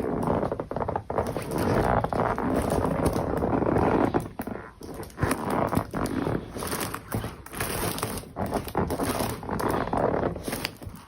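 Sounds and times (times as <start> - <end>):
rubber boots rubbing and squeaking: 0.0 - 11.0.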